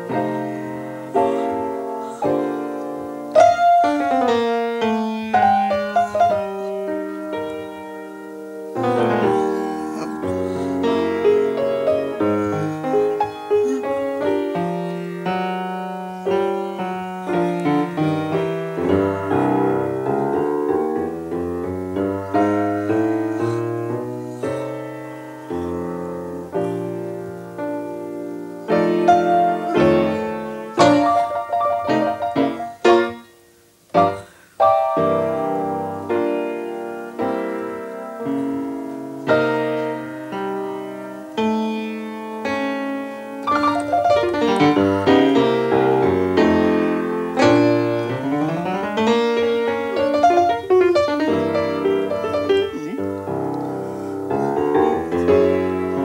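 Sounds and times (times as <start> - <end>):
jazz piano: 0.0 - 56.0.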